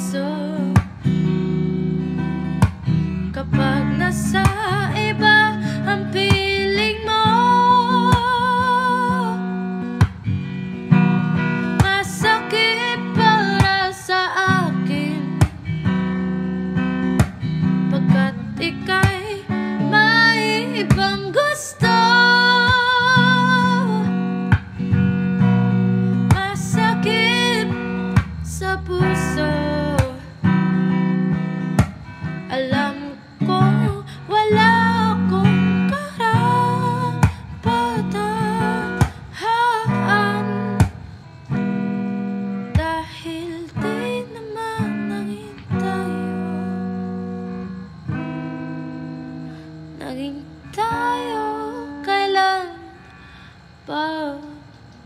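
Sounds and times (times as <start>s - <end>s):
woman singing: 0.0s - 47.7s, 49.4s - 53.1s, 53.8s - 54.8s
acoustic guitar strummed and picked: 0.0s - 55.0s.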